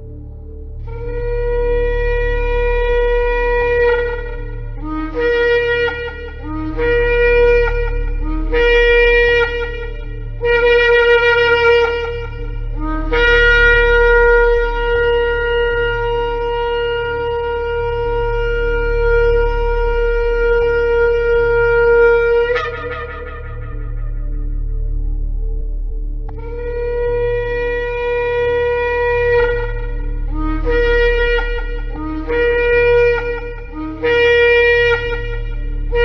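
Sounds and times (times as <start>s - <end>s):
ram's horn blasts: 0.0s - 25.3s, 25.9s - 36.0s.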